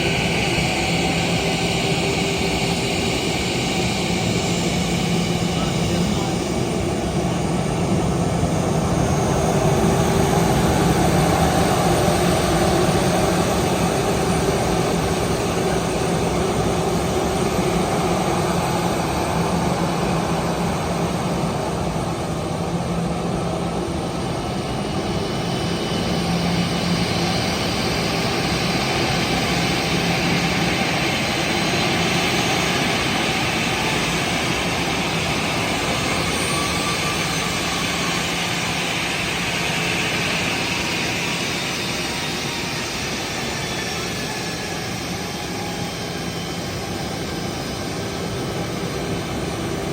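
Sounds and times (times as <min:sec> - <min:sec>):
airliner engines droning: 0:00.0 - 0:49.9.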